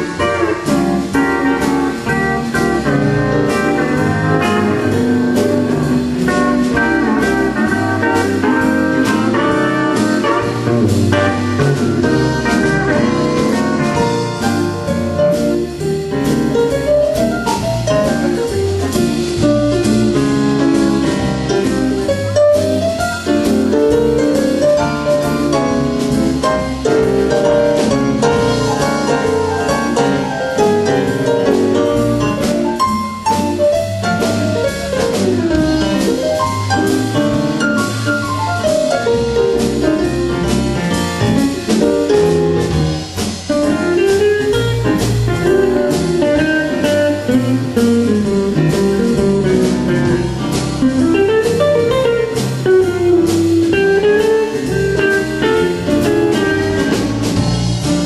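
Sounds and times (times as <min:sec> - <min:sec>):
drum kit: 0:00.0 - 0:58.0
electric bass: 0:00.0 - 0:58.0
pedal steel guitar melody: 0:00.0 - 0:58.0.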